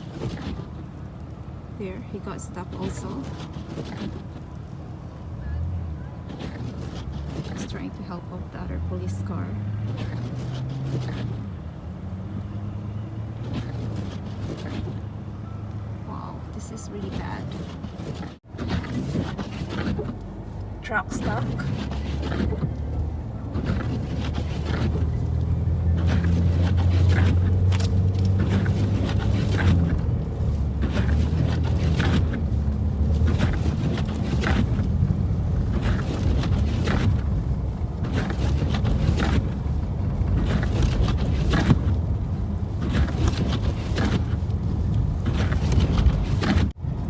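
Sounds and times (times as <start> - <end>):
vehicle engine humming: 0.0 - 47.0.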